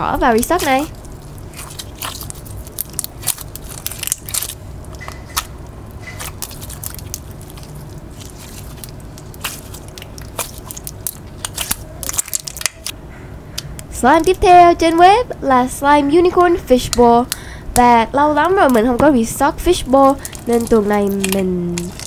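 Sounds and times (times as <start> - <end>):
slime crackling and popping: 0.1 - 13.0, 16.7 - 22.0.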